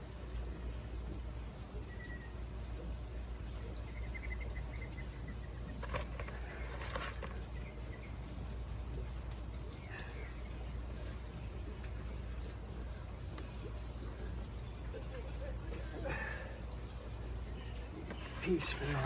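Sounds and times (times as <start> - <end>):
steady low hum: 0.0 - 19.0
faint bird chirps: 0.4 - 19.0.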